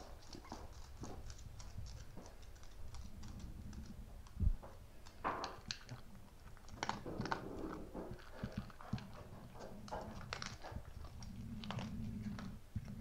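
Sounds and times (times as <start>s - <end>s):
dog claws clicking and tapping: 0.0s - 13.0s.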